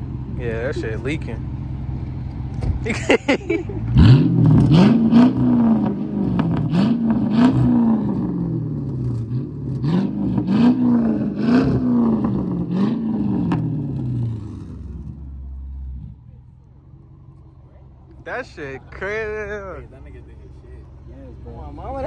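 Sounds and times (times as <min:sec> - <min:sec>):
car engine revving: 0:03.7 - 0:22.0.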